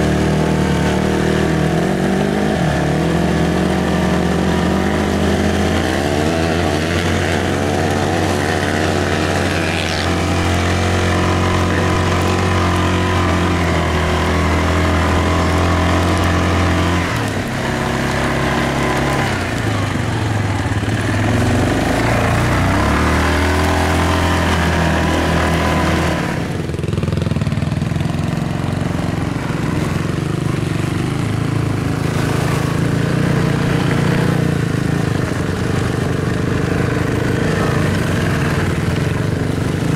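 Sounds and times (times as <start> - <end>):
quad engine running under load: 0.0 - 39.9.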